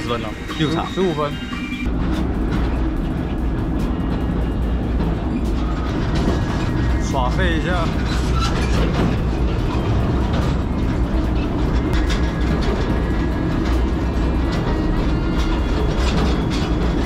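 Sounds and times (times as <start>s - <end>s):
train wheels rumbling on rail: 0.0s - 17.0s
wheel clacks: 0.0s - 17.0s.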